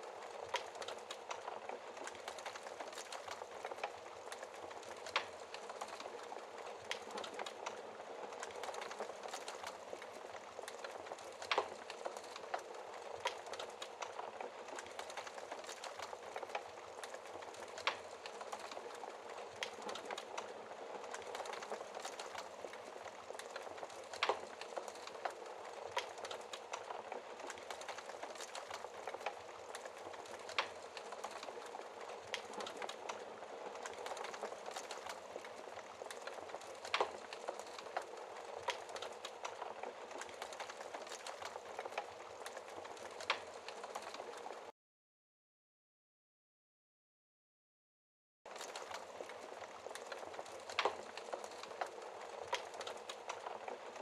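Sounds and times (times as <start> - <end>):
fire crackling: 0.0 - 44.7, 48.5 - 54.0
fire pops: 0.1 - 44.6, 48.6 - 54.0.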